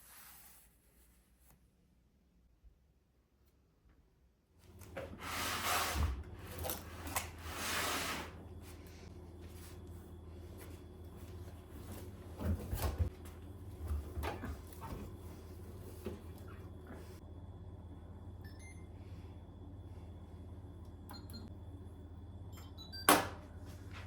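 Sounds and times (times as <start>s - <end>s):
steady low hum: 4.3s - 24.0s.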